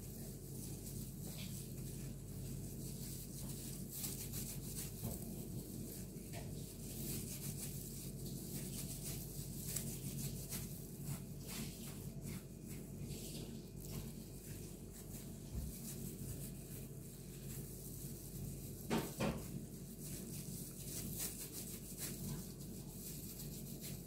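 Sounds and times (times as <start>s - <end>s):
plastic gloves rustling: 0.0s - 24.0s.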